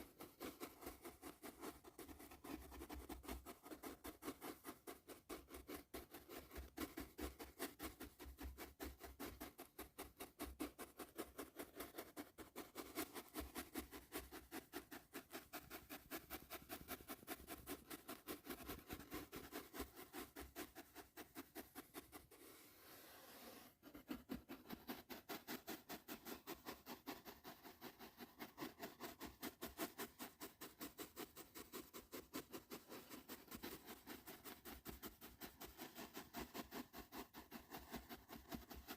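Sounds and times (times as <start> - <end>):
brush bristles stroking microphone: 0.0 - 38.9.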